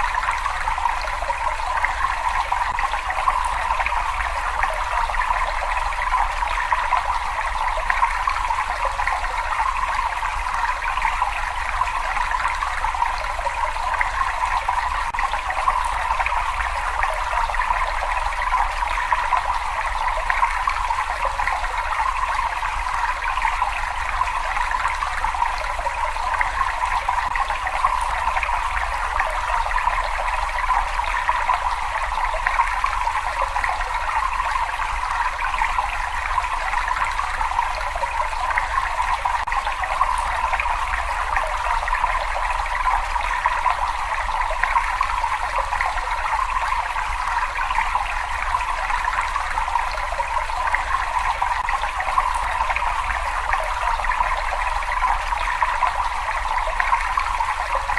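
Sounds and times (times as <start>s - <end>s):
water running and trickling: 0.0s - 57.9s.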